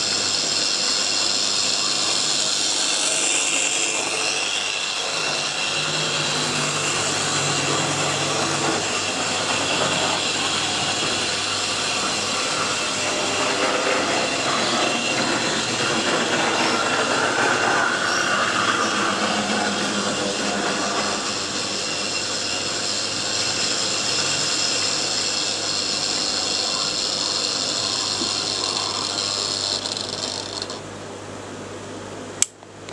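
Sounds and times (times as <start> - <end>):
electric motor and gears whirring: 0.0 - 30.9.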